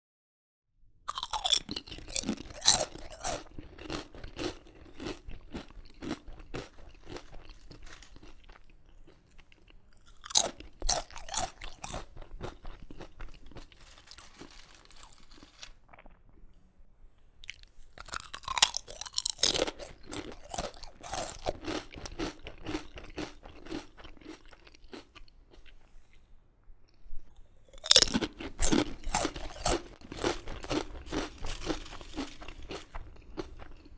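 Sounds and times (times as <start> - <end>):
crisps being crunched and chewed: 1.1 - 16.4, 17.4 - 25.8, 27.7 - 33.9.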